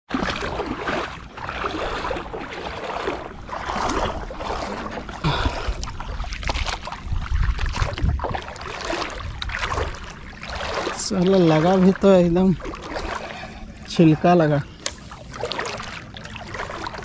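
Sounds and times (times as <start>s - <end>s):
water sloshing and lapping: 0.1s - 17.0s
low rumble on microphone: 0.2s - 14.0s.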